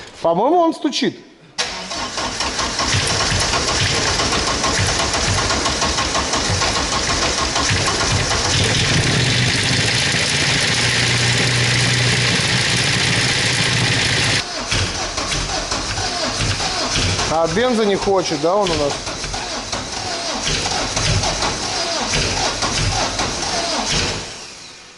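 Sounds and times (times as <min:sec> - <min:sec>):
engine knocking: 0:02.6 - 0:23.8
car engine running: 0:02.9 - 0:23.6.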